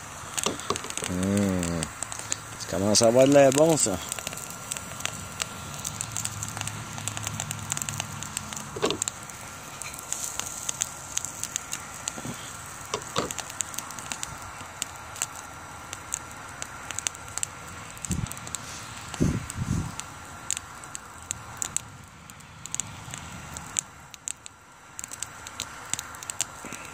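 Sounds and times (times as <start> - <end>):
faint high fan whine: 0.0 - 26.9
wood fire crackling and popping: 0.0 - 26.9.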